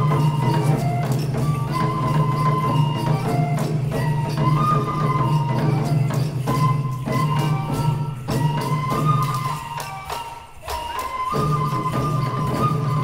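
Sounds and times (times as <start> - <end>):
bamboo flute melody: 0.0 - 13.0
other percussion: 0.0 - 13.0.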